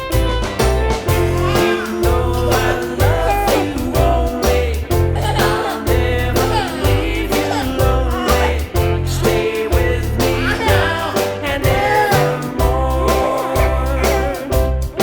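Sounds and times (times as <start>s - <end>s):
upbeat background music: 0.0s - 15.0s.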